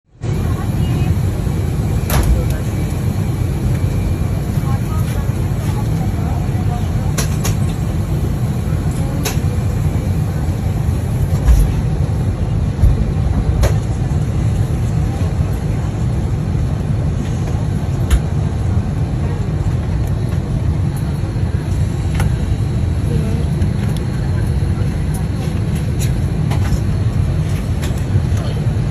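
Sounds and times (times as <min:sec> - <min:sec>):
vehicle cabin rumble: 0:00.2 - 0:28.9.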